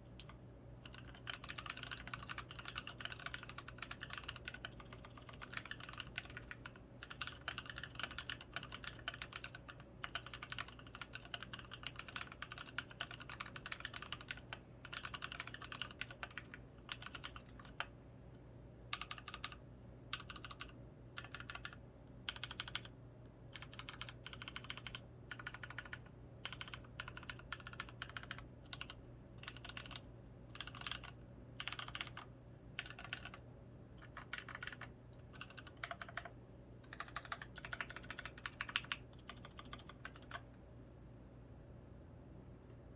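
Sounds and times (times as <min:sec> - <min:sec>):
mechanical keyboard typing: 0:00.2 - 0:17.9, 0:18.9 - 0:22.9, 0:23.5 - 0:33.4, 0:34.0 - 0:40.4.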